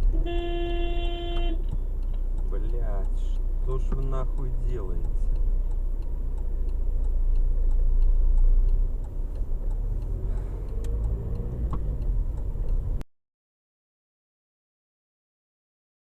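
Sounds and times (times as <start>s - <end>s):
faint ticking: 0.0s - 13.0s
car engine and road noise: 0.0s - 13.1s.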